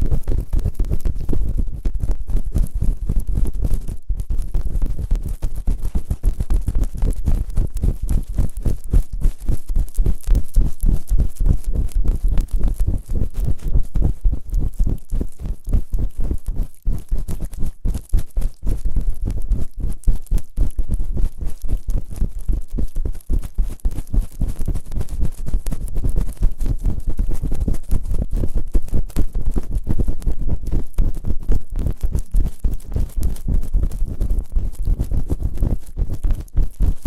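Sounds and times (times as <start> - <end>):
rubbing and scraping on microphone: 0.0 - 37.0.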